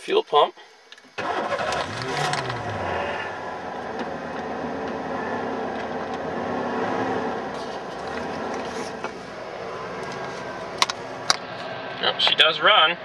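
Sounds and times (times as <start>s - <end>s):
truck engine revving and idling: 1.2s - 12.4s.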